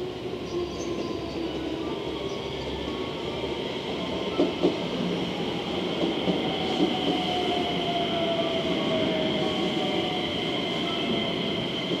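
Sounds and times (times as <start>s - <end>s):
distant diesel train rumbling: 0.0s - 12.0s.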